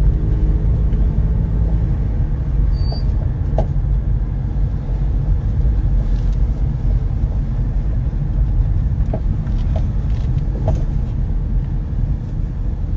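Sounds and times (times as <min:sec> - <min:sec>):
suspension clunks: 0:00.0 - 0:04.6, 0:05.2 - 0:12.5
road and engine rumble: 0:00.0 - 0:12.9.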